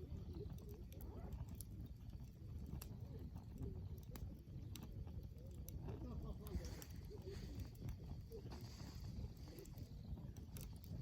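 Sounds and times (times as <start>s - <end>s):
campfire rumbling: 0.0s - 11.0s
fire crackling pops: 0.0s - 11.0s.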